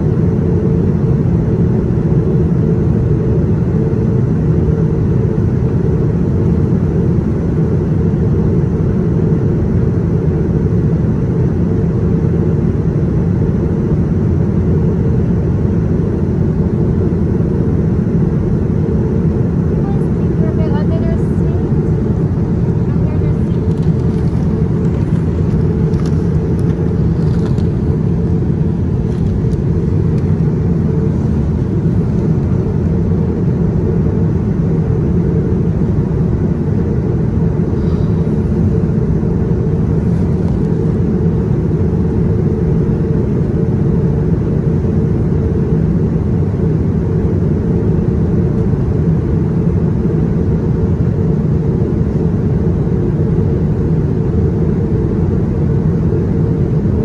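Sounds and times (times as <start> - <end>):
jet engine drone in cabin: 0.0 - 57.0.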